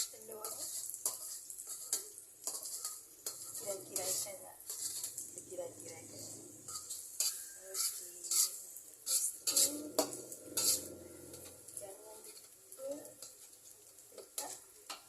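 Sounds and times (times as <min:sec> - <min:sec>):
metal utensil scraping cookware: 0:00.0 - 0:15.0.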